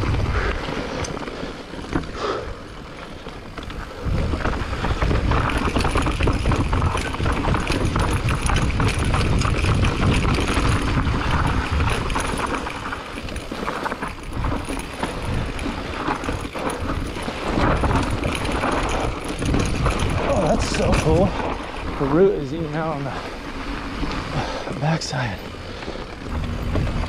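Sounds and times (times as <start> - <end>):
wind rushing over microphone: 0.0 - 2.8, 3.4 - 24.8, 26.1 - 27.0
bike clicks and rattles: 0.0 - 27.0
bike tyres rolling: 0.0 - 27.0.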